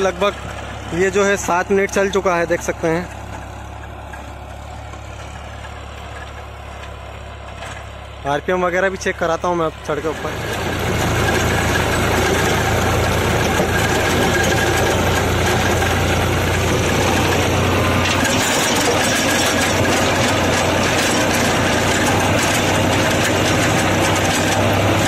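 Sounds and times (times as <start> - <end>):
rotavator churning soil: 0.0 - 7.0, 9.8 - 25.0
tractor diesel engine running: 0.0 - 25.0.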